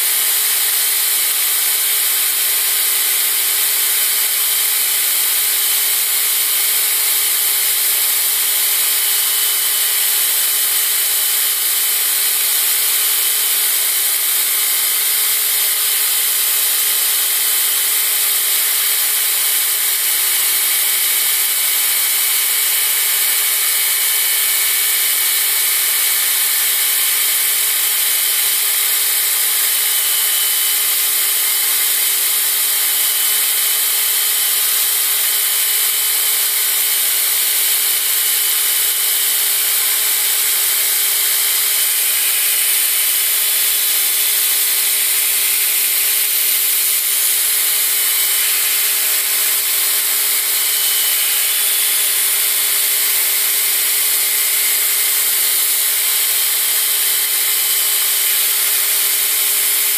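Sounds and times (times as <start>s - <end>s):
belt grinder hiss: 4.4s - 55.8s.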